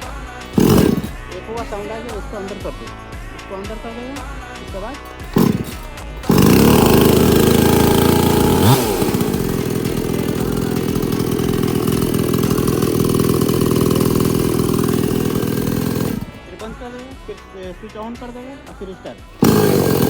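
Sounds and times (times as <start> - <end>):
chainsaw engine running: 0.0 - 2.9, 4.6 - 20.0.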